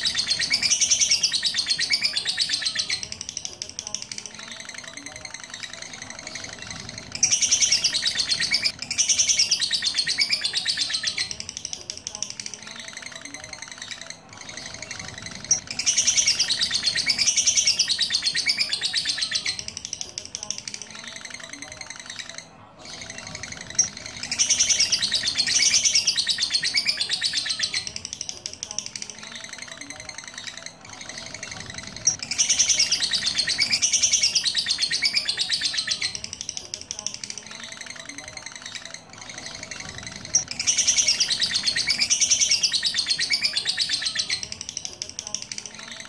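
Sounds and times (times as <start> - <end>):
lovebird trilling: 0.0 - 46.0
rapid bird chirping: 0.0 - 46.0.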